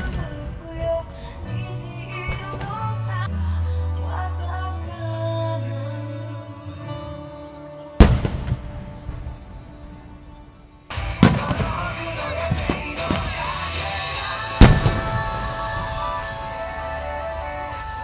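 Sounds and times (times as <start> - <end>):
music: 0.0 - 18.0.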